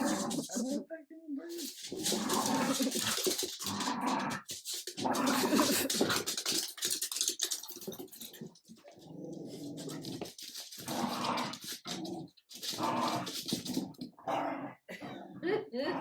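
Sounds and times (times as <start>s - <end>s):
dogs growling in play: 0.0s - 0.8s, 1.5s - 16.0s.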